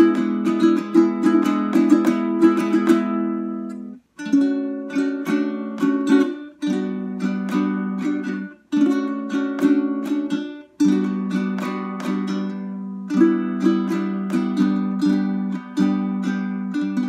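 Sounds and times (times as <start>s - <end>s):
ukulele plucked chords: 0.0s - 17.0s.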